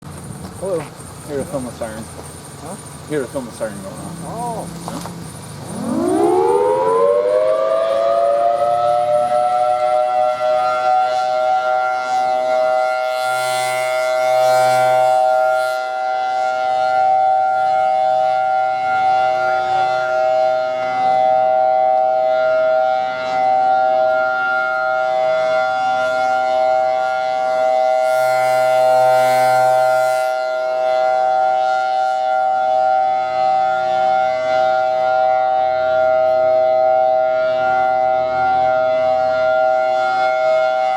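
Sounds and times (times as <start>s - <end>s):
warning siren two-note chord: 5.6s - 40.9s.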